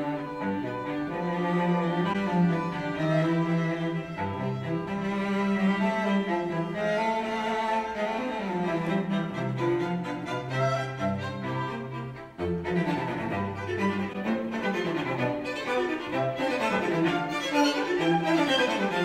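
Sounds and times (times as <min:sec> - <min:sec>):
bowed string music over speakers: 0:00.0 - 0:19.0.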